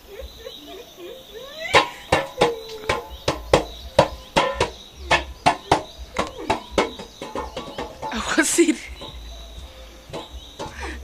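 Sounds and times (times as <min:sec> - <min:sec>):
metal bowl knocking: 0:01.7 - 0:11.0.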